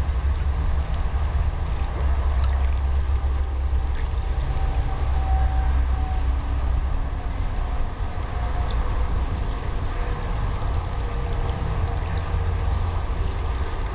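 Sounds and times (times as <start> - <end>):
pool water lapping and swishing: 0.0 - 13.9.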